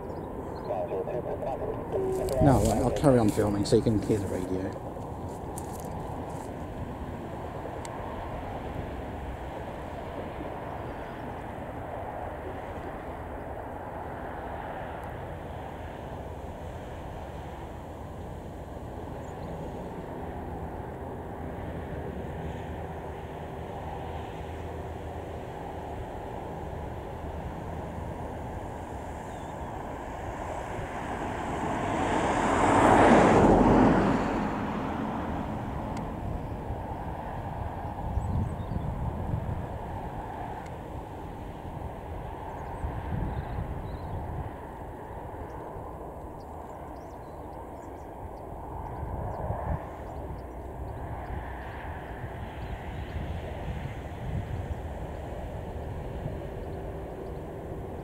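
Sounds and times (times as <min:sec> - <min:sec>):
distant jet aircraft rumble: 0:00.0 - 0:58.0.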